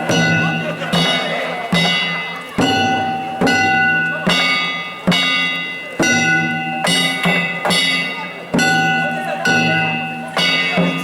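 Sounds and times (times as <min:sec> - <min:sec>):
metal gongs and drum beating: 0:00.0 - 0:11.0.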